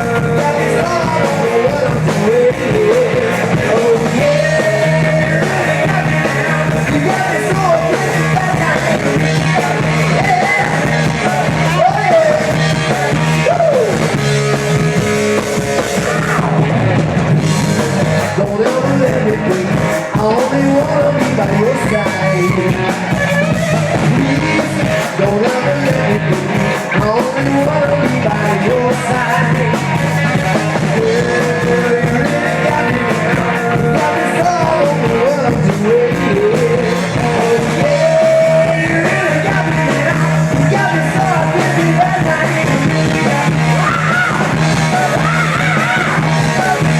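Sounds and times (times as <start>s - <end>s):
person singing: 0.0s - 14.3s, 17.5s - 46.9s
loud electric guitar: 0.0s - 46.9s.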